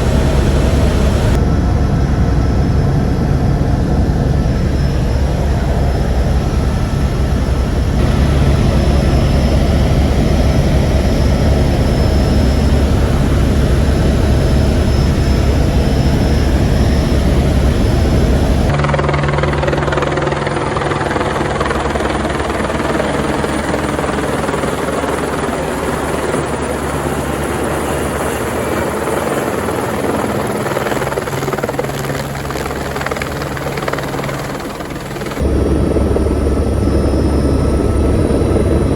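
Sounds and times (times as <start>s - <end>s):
helicopter rotor chop: 0.0s - 38.9s
helicopter turbine noise: 0.0s - 38.9s.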